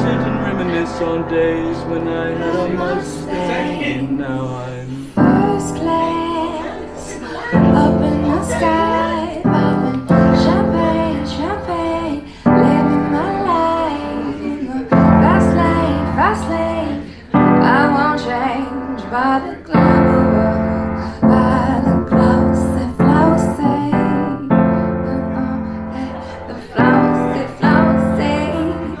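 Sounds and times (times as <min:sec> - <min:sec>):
piano playing slow chords: 0:00.0 - 0:29.0
woman singing vocal runs: 0:02.4 - 0:29.0.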